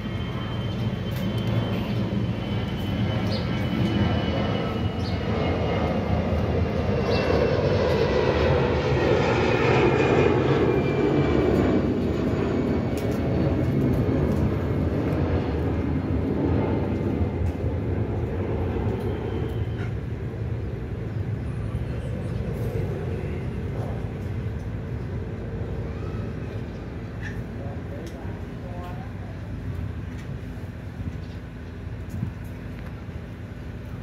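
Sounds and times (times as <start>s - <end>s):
engine rumble: 0.0s - 34.0s.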